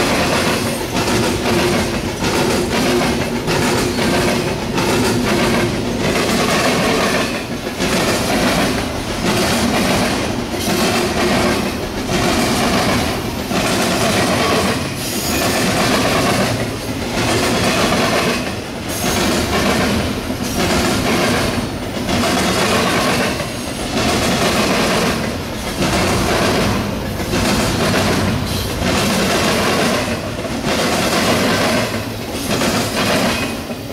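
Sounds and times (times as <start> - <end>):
freight train wheels clattering: 0.0 - 33.9.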